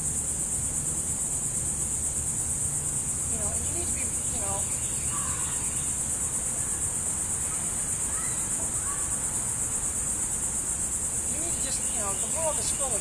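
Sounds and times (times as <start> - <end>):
insects chorus droning: 0.0 - 13.0.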